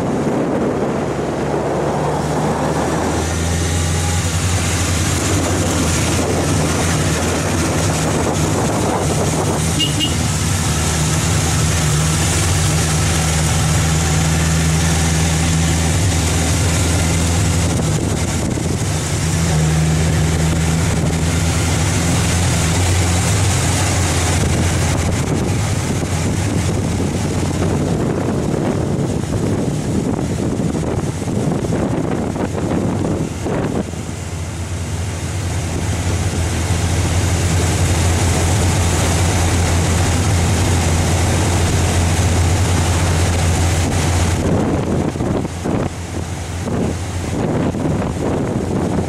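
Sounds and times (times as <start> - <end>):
vehicle engine droning: 0.0 - 49.0
wind rushing over microphone: 0.0 - 49.0.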